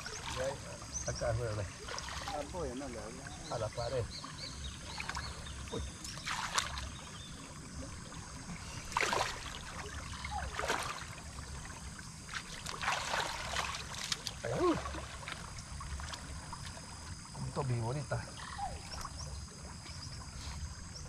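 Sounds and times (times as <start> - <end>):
creek water splashing: 0.0 - 21.0.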